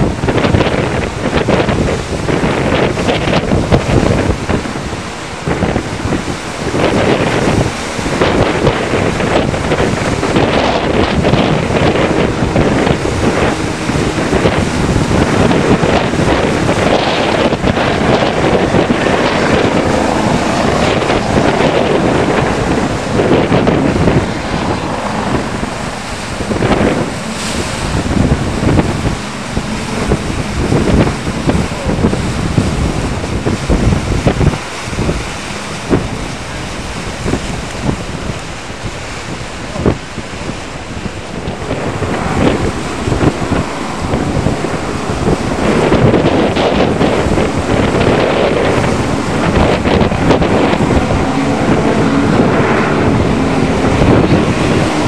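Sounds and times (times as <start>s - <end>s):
rush of open sea: 0.0s - 55.0s
wind buffeting microphone: 0.0s - 55.0s.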